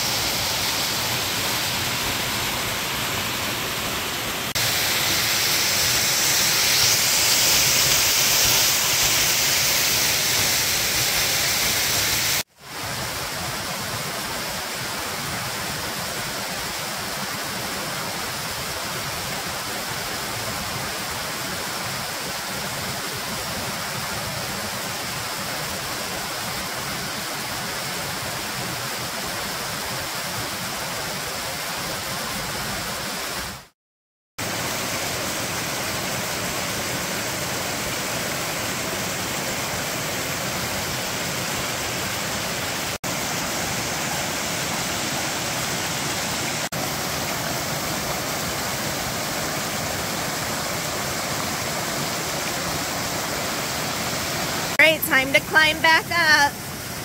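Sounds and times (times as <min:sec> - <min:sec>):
waterfall over rocks: 0:00.0 - 0:33.7, 0:34.4 - 0:57.0.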